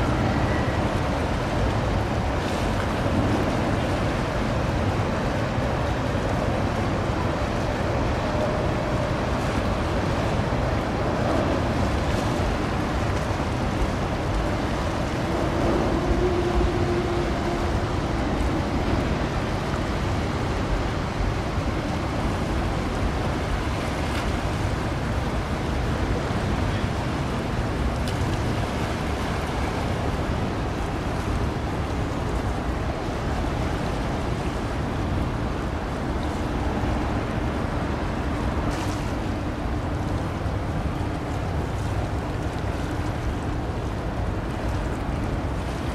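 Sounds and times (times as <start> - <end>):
waves at sea: 0.0 - 45.9
wind: 0.0 - 45.9.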